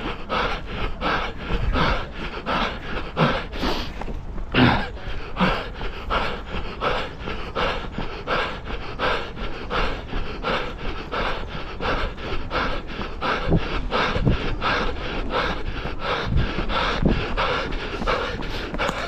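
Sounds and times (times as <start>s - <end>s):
runner panting: 0.0s - 19.0s
running footfalls: 0.0s - 19.0s.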